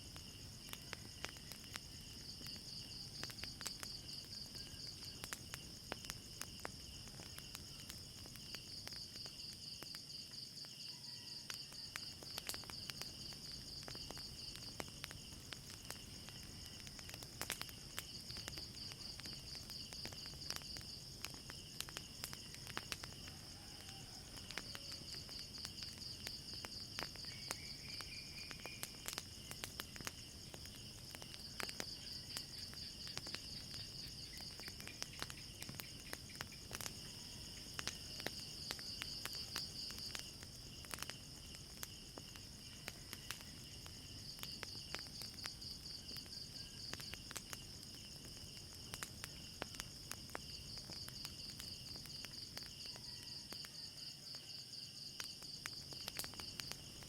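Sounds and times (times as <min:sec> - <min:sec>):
crickets chirping: 0:00.0 - 0:57.0
wood fire crackling: 0:00.0 - 0:57.0.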